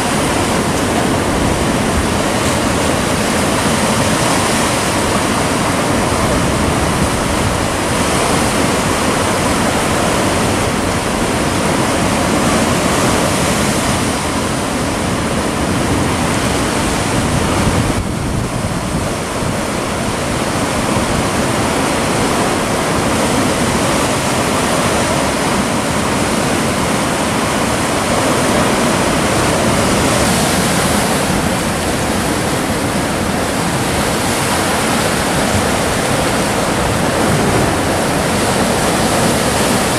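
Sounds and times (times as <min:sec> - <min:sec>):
surf breaking on rocks: 0:00.0 - 0:39.9.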